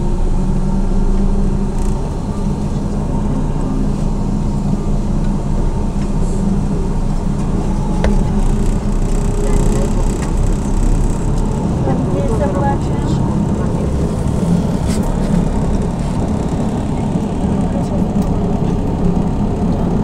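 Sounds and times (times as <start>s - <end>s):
low rumble of wheels: 0.0s - 20.0s.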